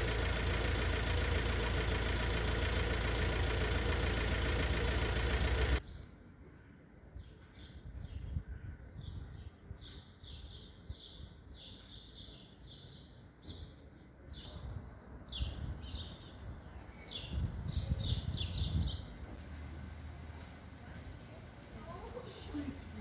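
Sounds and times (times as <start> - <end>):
small birds chirping: 0.0 - 19.4.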